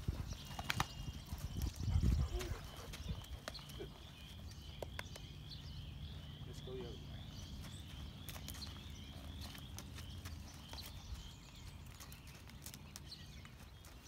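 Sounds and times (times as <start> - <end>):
hoof steps on soft dirt: 0.0 - 6.4, 7.1 - 14.0.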